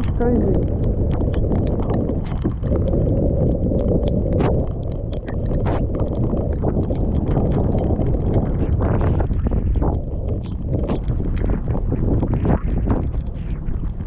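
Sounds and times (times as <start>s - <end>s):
raindrops ticking: 0.0s - 14.0s
storm wind buffeting microphone: 0.0s - 14.0s.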